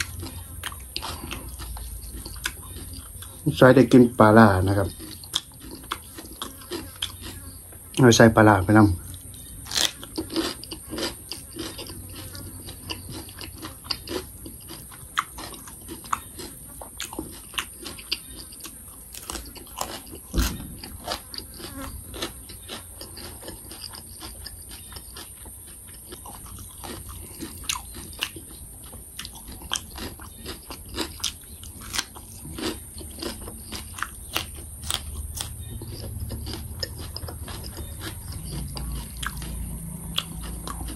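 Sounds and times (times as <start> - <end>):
person crunching cucumber: 0.0 - 40.9.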